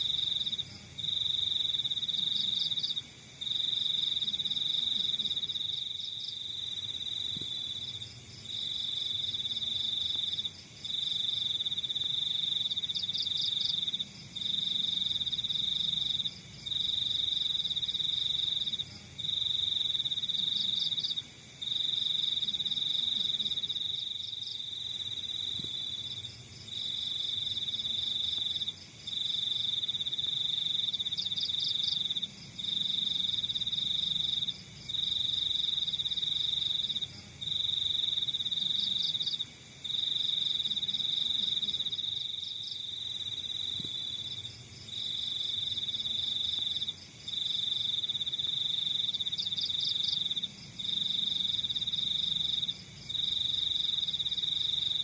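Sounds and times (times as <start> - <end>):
cricket trilling: 0.0 - 55.0
insects chirping: 0.0 - 55.0.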